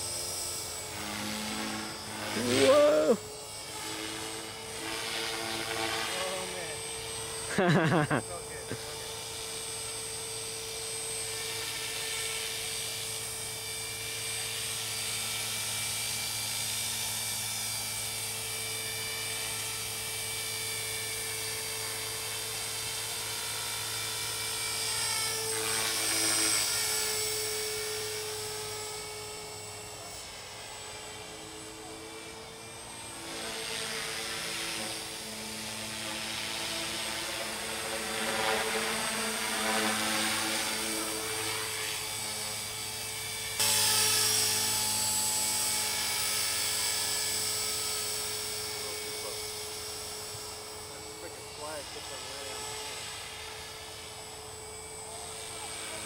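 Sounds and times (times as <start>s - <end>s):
rotor hum: 0.0s - 15.1s, 18.1s - 56.0s
rc helicopter motor whine: 0.0s - 56.0s.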